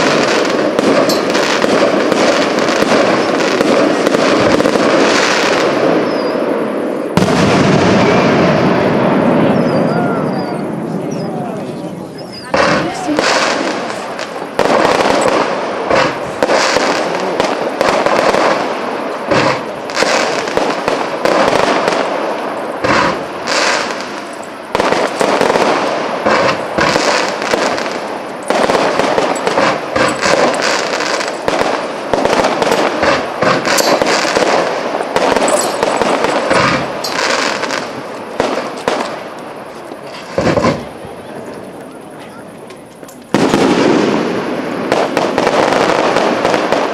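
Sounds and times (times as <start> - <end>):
fireworks bangs and pops: 0.0 - 46.9
rumbling crackling wash: 0.0 - 46.9.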